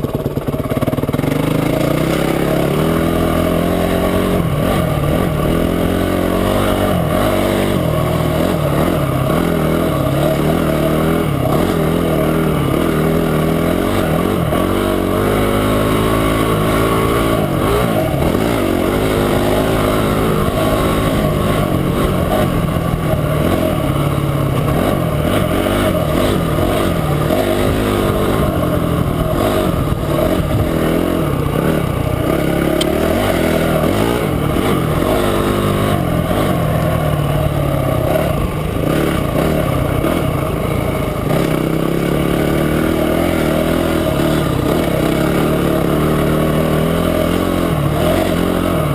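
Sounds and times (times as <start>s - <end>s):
motorcycle engine revving: 0.0s - 48.9s
steady rushing noise: 0.0s - 48.9s.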